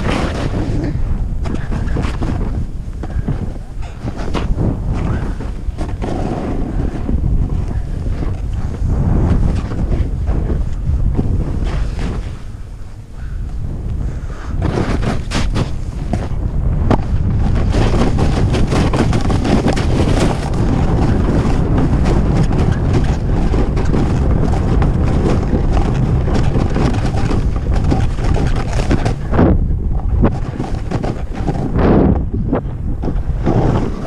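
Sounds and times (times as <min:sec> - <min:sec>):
skis carving through snow: 0:00.0 - 0:12.9, 0:14.0 - 0:34.0
wind buffeting microphone: 0:00.0 - 0:34.0.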